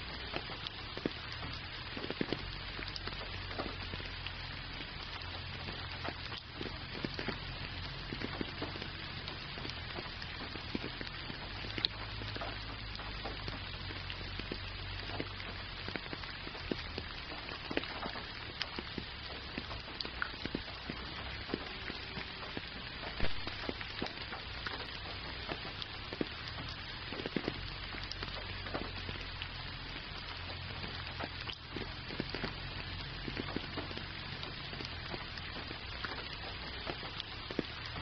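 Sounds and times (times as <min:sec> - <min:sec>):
close raindrop hits: 0:00.0 - 0:38.0
gentle rain falling: 0:00.0 - 0:38.0.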